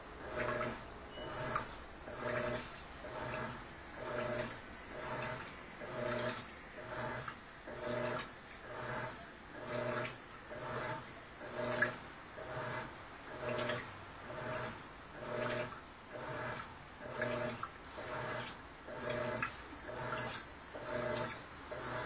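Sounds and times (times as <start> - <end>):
washing machine agitating: 0.0 - 22.0.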